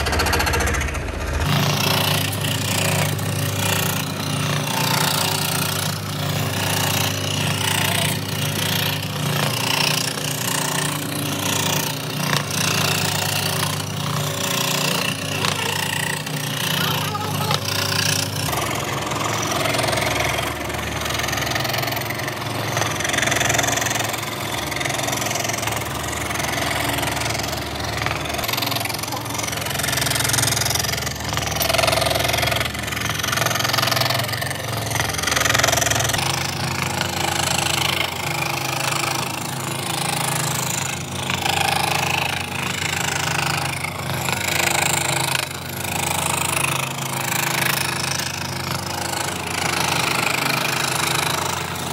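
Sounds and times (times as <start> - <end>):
power tool motor humming: 0.0 - 51.9
wood cutting noise: 0.0 - 51.9.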